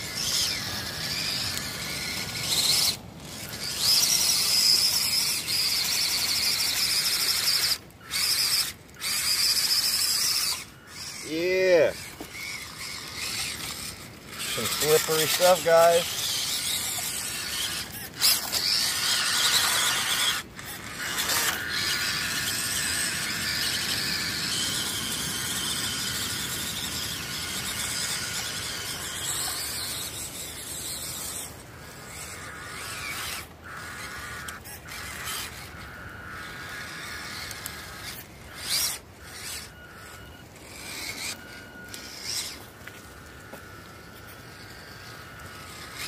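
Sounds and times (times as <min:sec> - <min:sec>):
toy truck electric motor whining: 0:00.0 - 0:46.0.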